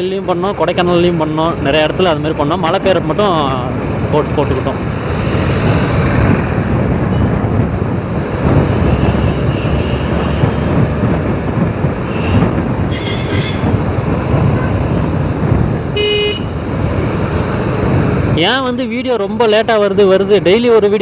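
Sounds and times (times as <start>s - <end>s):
motorcycle engine and road noise: 0.0s - 21.0s
wind buffeting microphone: 1.5s - 18.6s.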